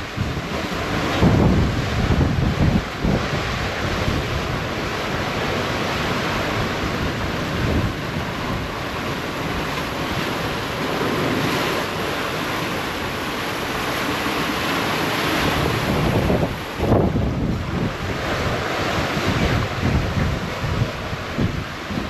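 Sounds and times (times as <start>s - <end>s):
waves rushing past boat: 0.0s - 22.0s
wind buffeting microphone: 0.0s - 22.0s.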